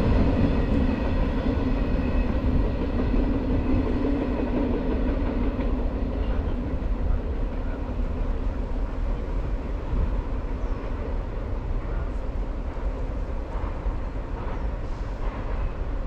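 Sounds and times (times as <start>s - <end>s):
freight train rumble: 0.0s - 16.0s.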